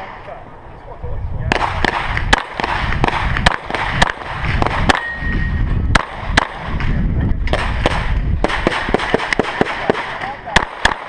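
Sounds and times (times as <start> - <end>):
pistol shots: 1.5 - 6.9, 7.5 - 11.0.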